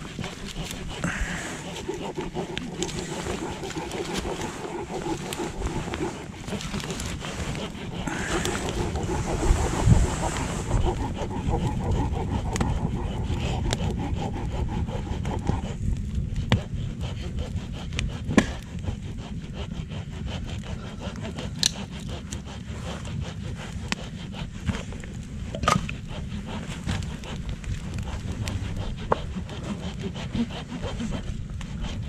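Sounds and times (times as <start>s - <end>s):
hand saw cutting wood: 0.0s - 32.0s.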